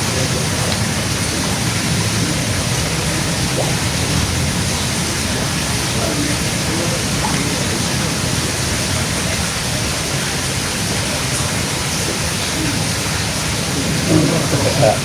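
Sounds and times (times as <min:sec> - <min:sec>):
heavy rain or falling water: 0:00.0 - 0:15.0.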